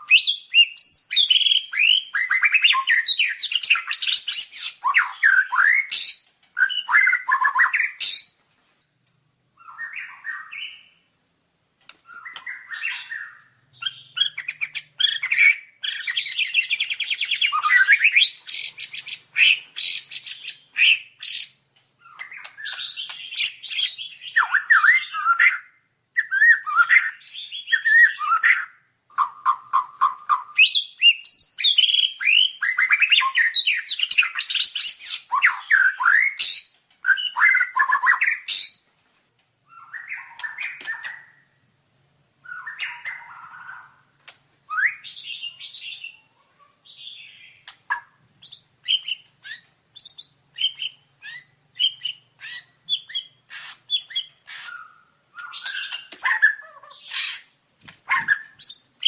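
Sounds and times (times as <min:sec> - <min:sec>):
bird singing: 0:00.0 - 0:38.9, 0:39.6 - 0:41.7, 0:42.4 - 0:57.5, 0:58.1 - 0:59.0.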